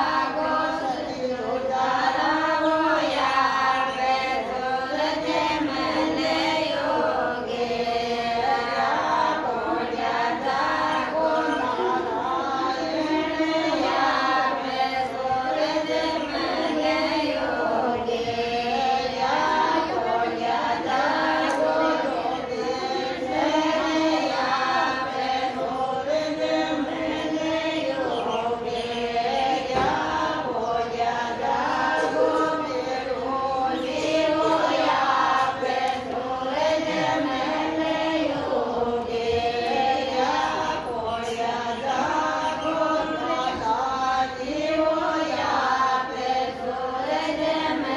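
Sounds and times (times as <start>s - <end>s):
women singing together: 0.0s - 47.9s.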